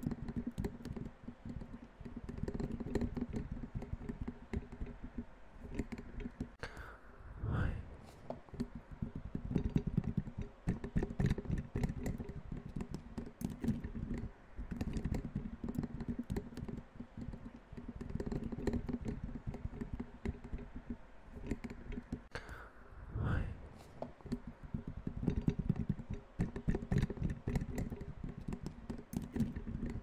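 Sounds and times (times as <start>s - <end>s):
fast irregular tapping: 0.0s - 6.6s, 8.3s - 22.3s, 24.0s - 30.0s.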